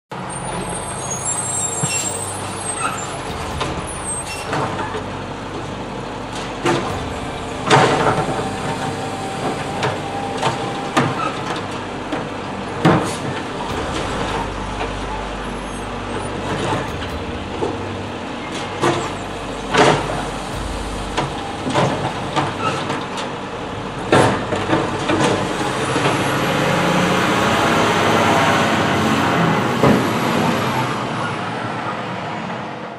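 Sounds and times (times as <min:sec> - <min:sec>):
garbage truck diesel engine: 0:00.1 - 0:32.9
road noise rush: 0:00.1 - 0:32.9.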